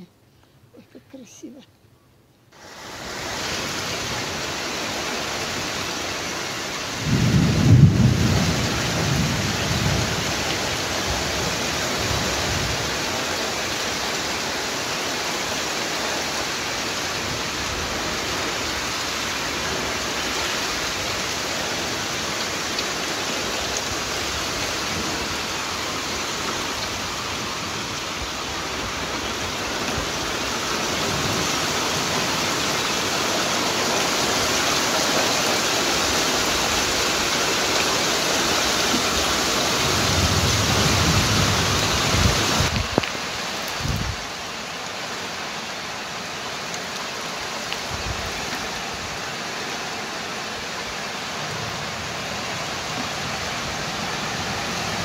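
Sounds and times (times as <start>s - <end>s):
heavy rain on trees: 2.5s - 55.0s.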